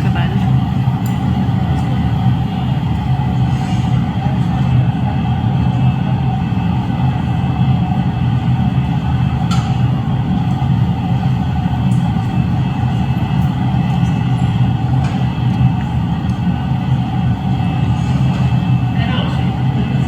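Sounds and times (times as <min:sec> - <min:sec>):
burner rumbling: 0:00.0 - 0:20.0.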